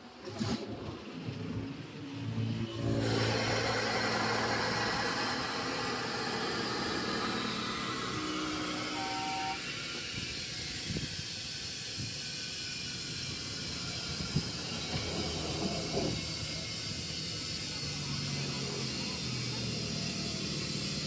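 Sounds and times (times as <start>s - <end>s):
hiss of rushing air: 2.8s - 21.0s.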